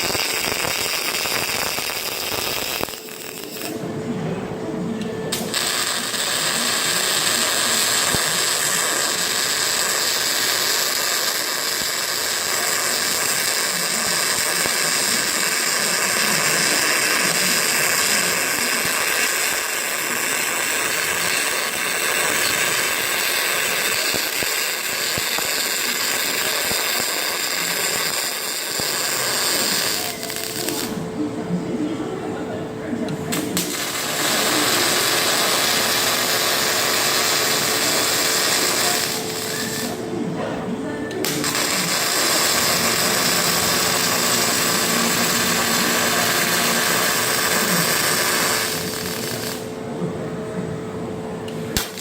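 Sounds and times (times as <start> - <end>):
welding arc hiss: 0.0 - 3.8, 5.3 - 31.0, 33.1 - 40.1, 41.1 - 49.8, 51.5 - 52.0.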